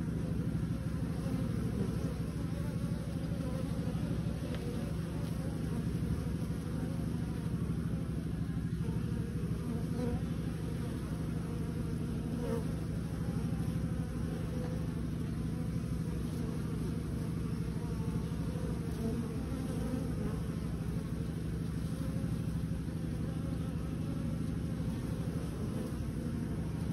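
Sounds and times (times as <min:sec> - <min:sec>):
honeybees buzzing: 0:00.0 - 0:26.9.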